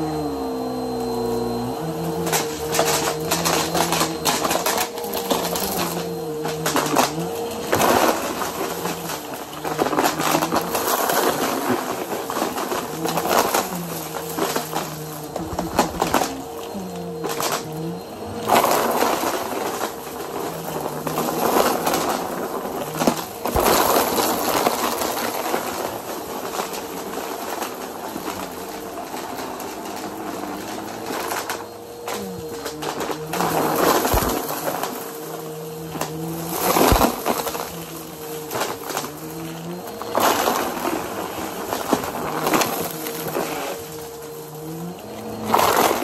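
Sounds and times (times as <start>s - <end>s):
debris clicking in vacuum: 0.0s - 46.0s
vacuum cleaner motor whine: 0.0s - 46.0s.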